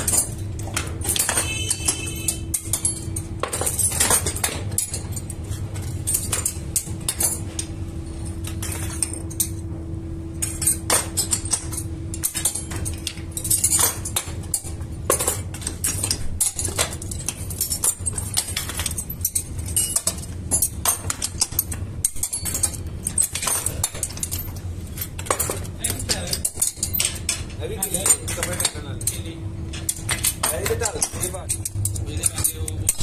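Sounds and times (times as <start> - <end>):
metal hooks clinking: 0.0 - 9.7, 10.4 - 33.0
steady low hum: 0.0 - 33.0.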